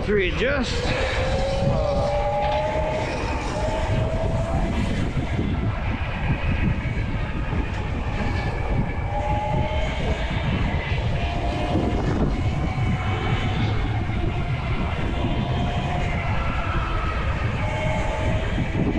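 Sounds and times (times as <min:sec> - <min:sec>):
thin whine rising in pitch: 0:00.0 - 0:18.9
wind buffeting microphone: 0:00.0 - 0:18.9.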